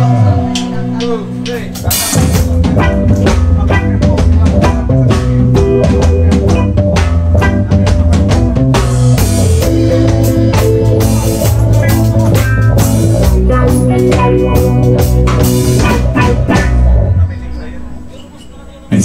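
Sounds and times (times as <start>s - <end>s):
drum kit steady beat: 0.0s - 17.2s
electric guitars: 0.0s - 18.2s
bass guitar: 0.0s - 18.3s.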